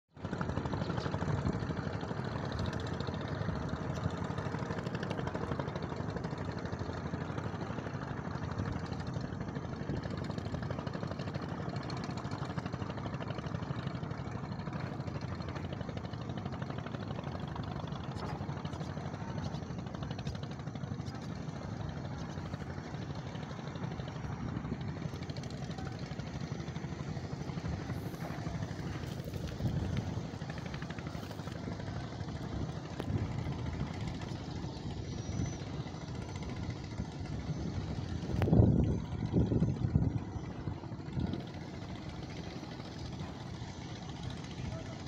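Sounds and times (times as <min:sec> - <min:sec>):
motorboat engine running: 0:00.1 - 0:45.0.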